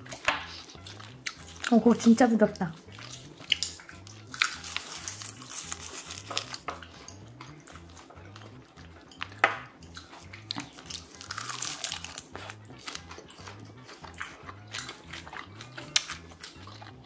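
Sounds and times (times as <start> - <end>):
chewing: 0.0 - 1.8, 2.7 - 17.0
soft background music: 0.0 - 17.0.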